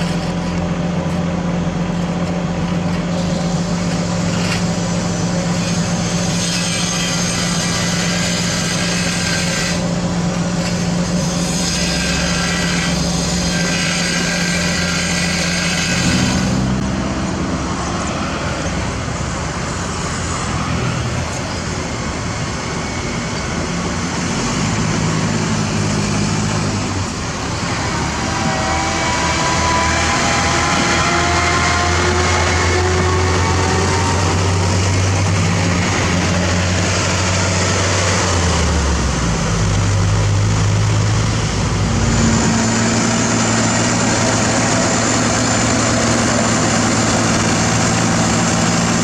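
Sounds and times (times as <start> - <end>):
heavy diesel engines: 0.0 - 49.0
road noise: 0.0 - 49.0.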